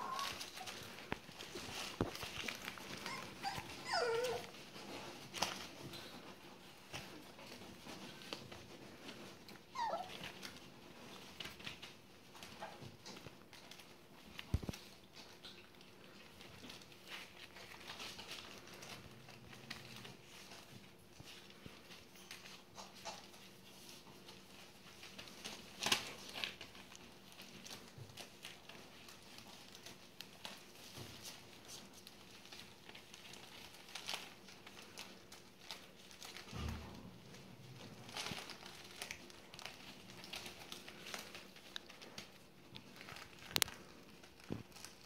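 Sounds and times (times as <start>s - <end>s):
newspaper rustling under paws: 0.0s - 45.0s.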